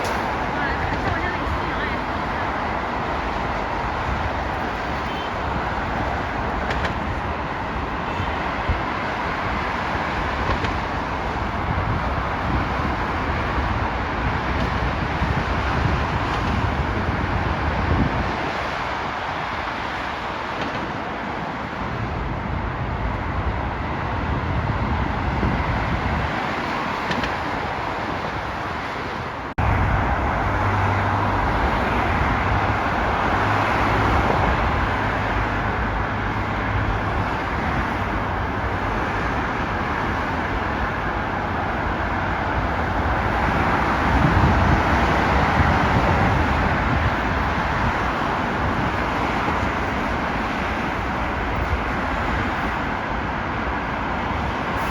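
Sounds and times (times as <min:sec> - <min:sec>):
vehicle rumble: 0:00.0 - 0:54.9.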